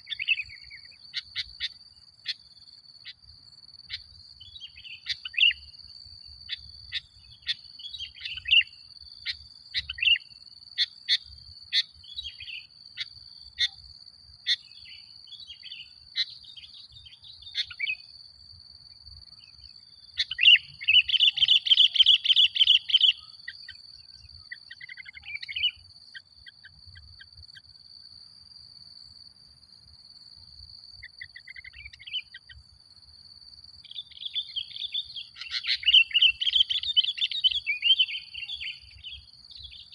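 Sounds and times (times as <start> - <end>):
bird chirping: 0.0 - 28.0, 30.6 - 32.7, 33.7 - 39.9.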